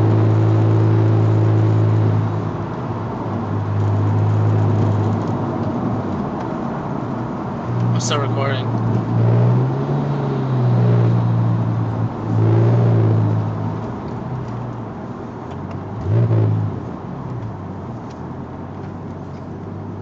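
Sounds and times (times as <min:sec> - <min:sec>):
car engine running and revving: 0:00.0 - 0:20.0.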